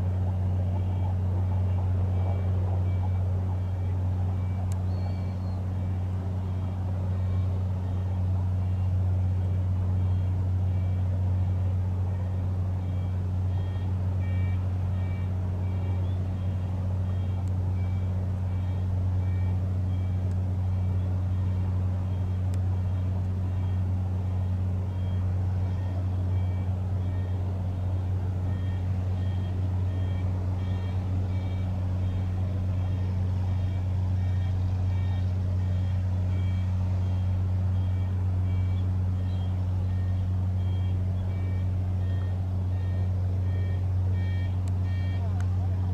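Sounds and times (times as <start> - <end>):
faint high-pitched beeps: 0.0 - 45.9.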